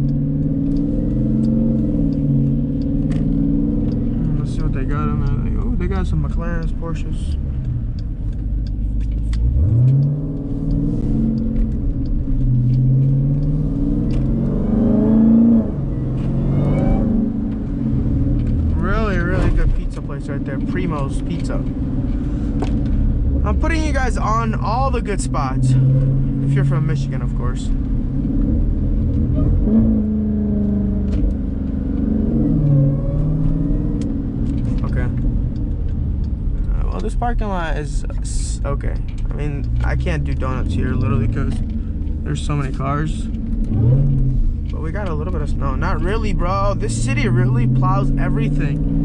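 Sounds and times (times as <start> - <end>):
car engine accelerating: 0.0 - 49.0
low road rumble: 0.0 - 49.0.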